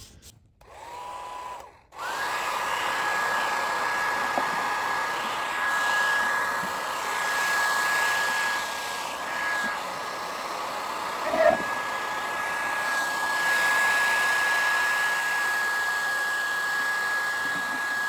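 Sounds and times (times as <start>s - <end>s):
hot-air blower running: 0.6s - 18.0s.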